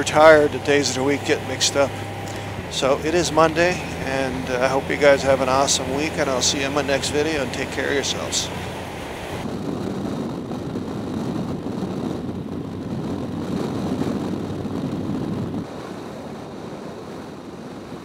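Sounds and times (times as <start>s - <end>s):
motorcycle engine hum: 0.0s - 18.0s
wind and road rush: 0.0s - 18.0s.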